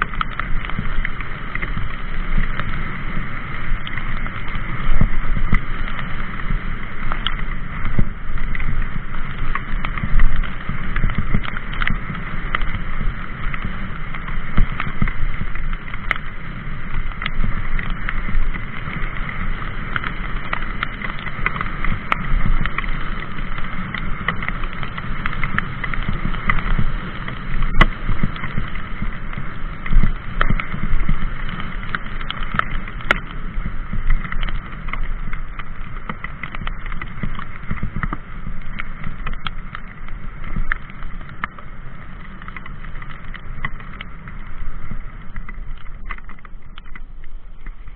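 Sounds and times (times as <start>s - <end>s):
bike clicks and rattles: 0.0s - 47.9s
tyres rumbling on trail: 0.0s - 47.9s
wind on microphone: 0.0s - 47.9s.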